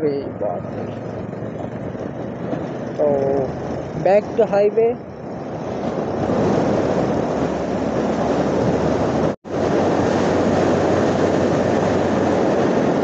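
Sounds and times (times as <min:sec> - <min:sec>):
motorcycle running: 0:00.0 - 0:13.0
wind roaring over microphone: 0:00.0 - 0:13.0.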